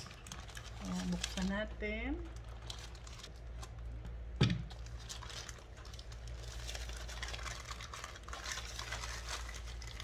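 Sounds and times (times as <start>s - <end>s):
plastic mailer bag crinkling: 0.0s - 3.9s, 4.7s - 10.0s.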